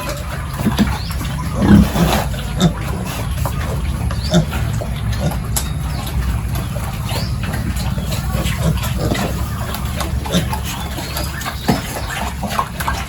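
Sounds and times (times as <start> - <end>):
pigs grunting: 0.0 - 13.0
steady low rumble: 0.3 - 13.0.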